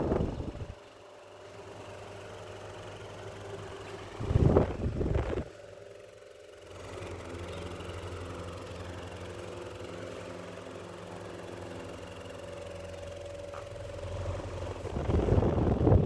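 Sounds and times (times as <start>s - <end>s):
electric fan motor humming: 0.0s - 16.0s.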